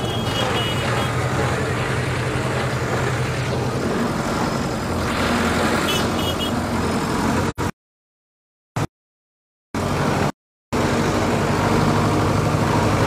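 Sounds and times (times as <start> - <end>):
tractor engine running: 0.0 - 7.7, 9.8 - 13.0.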